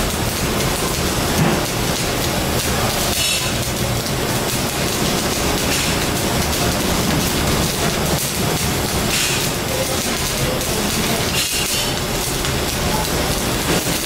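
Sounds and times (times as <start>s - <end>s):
arc welding crackling: 0.0s - 14.0s.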